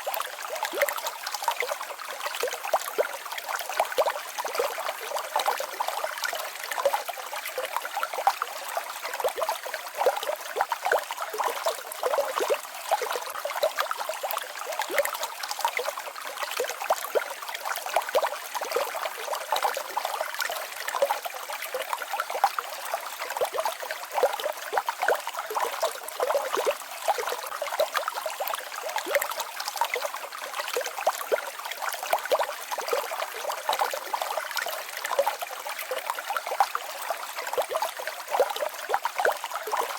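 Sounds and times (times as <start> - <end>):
stream babbling over small waterfall: 0.0 - 39.9.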